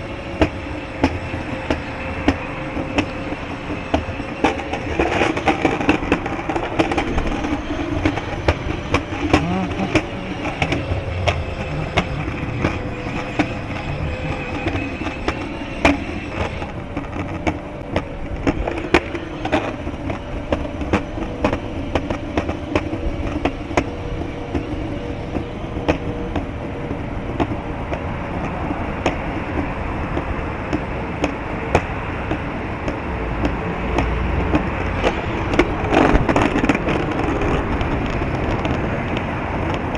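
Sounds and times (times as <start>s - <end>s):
small wheels rolling on pavement: 0.0s - 39.9s
wind rumble on microphone: 0.0s - 39.9s.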